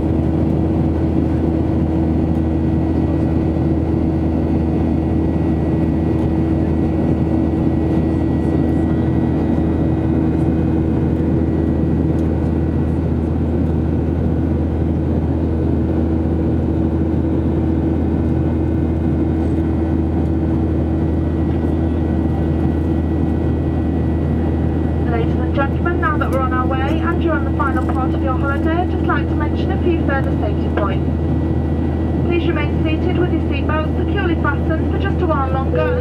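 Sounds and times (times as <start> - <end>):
airplane cabin drone: 0.0 - 36.0.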